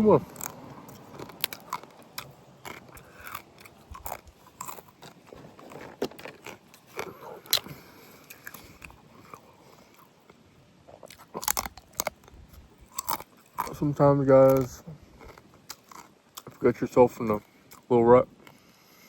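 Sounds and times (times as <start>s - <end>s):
chewing and biting chicken: 0.0s - 16.7s.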